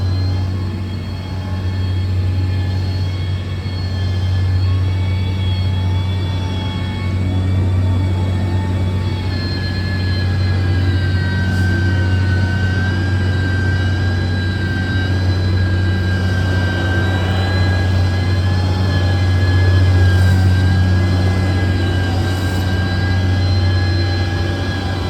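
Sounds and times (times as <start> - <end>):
diesel engine running: 0.0 - 25.0
high engine whine: 0.0 - 25.0.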